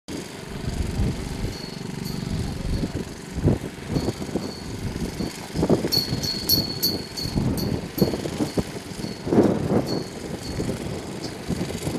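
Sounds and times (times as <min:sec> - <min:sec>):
model aircraft engine idling: 0:00.2 - 0:11.9.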